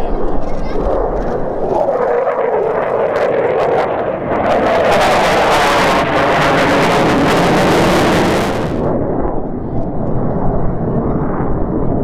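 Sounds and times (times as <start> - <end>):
jet engines passing overhead: 0.0 - 12.0.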